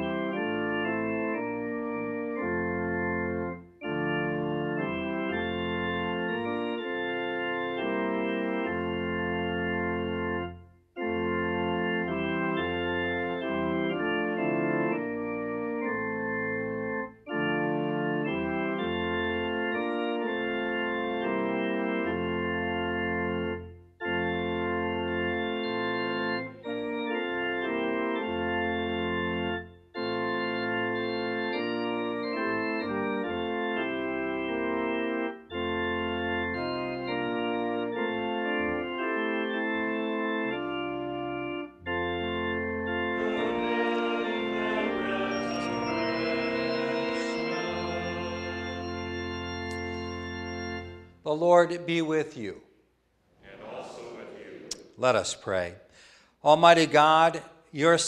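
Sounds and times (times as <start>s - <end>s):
organ playing hymn chords: 0.0s - 58.0s.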